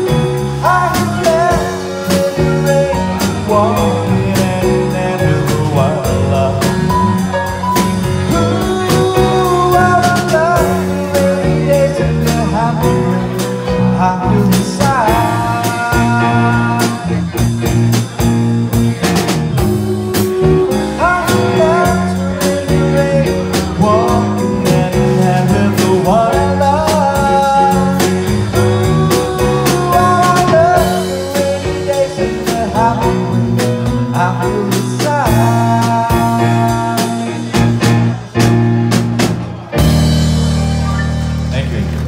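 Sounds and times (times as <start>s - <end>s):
man singing into a microphone: 0.0s - 18.1s, 19.5s - 38.3s
bass: 0.0s - 42.0s
drum kit: 0.0s - 42.0s
electric keyboard chords: 0.0s - 42.0s.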